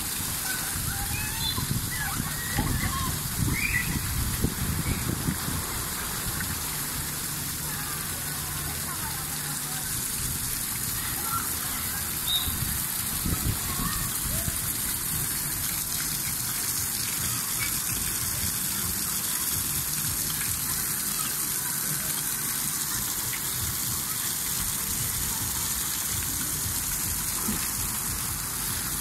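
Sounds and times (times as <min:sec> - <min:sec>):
water jets spraying and splashing: 0:00.0 - 0:29.0.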